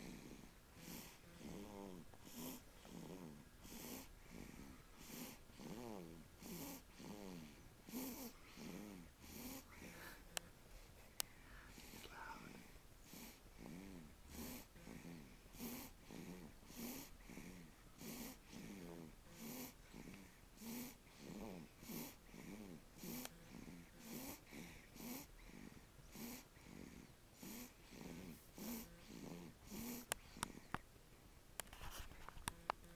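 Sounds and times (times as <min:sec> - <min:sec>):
short rasping snores: 0:00.0 - 0:10.0, 0:11.7 - 0:30.7.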